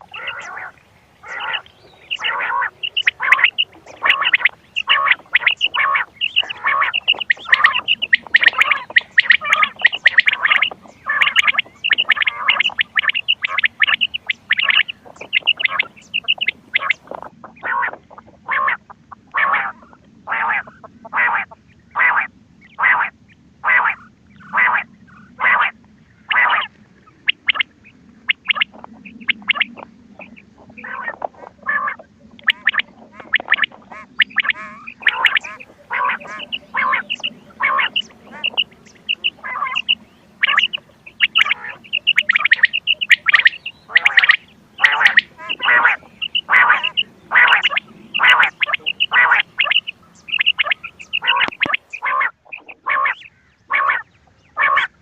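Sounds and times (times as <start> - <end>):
quail calls: 0.0 - 55.0.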